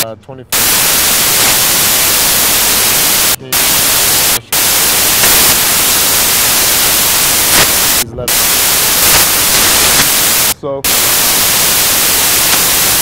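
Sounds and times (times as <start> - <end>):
loud static hiss: 0.0 - 13.0.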